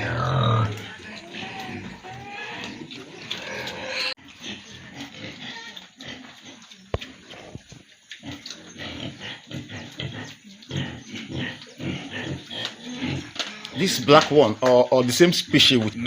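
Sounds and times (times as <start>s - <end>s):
pigs grunting: 0.0s - 14.6s.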